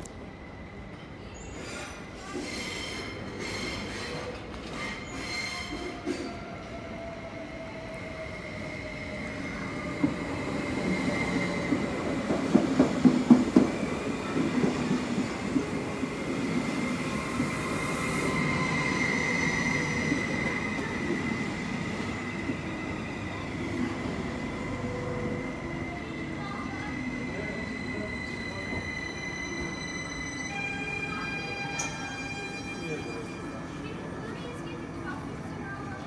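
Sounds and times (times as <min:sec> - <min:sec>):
electric train whine: 0:03.5 - 0:36.0.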